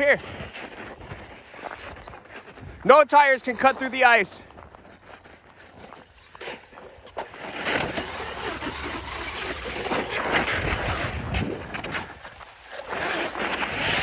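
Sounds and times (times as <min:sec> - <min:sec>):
rc truck tires churning snow: 0:00.0 - 0:14.0.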